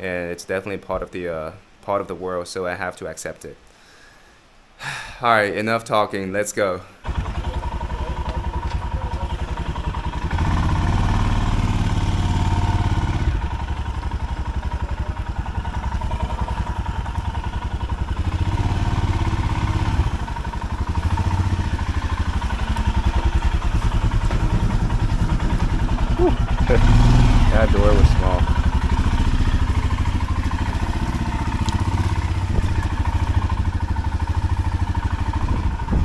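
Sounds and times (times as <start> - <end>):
motorcycle engine pulsing: 7.0 - 36.0.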